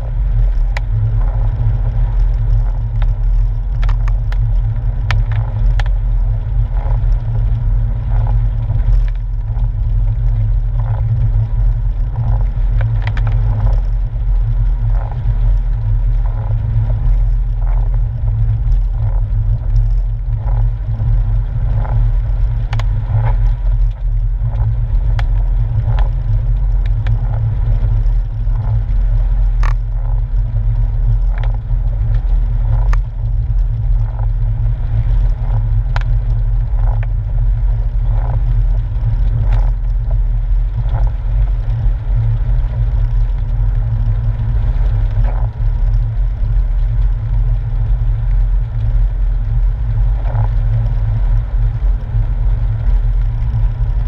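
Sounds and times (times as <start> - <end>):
car engine drone from cabin: 0.0 - 54.0
tyre and road rumble: 0.0 - 54.0.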